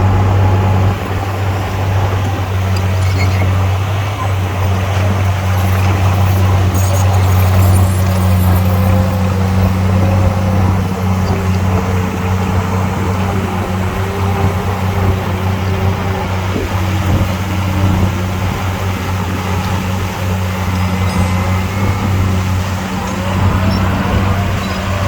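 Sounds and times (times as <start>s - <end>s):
heavy diesel engine humming: 0.0s - 25.0s.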